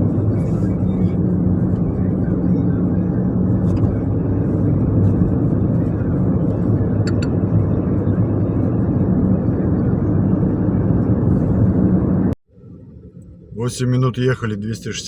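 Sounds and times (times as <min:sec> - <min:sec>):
car engine and tyre drone: 0:00.0 - 0:14.0.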